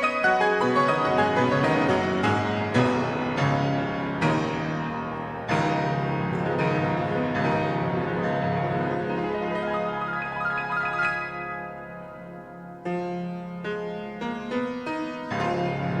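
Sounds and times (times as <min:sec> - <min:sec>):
piano playing: 0:00.0 - 0:16.0.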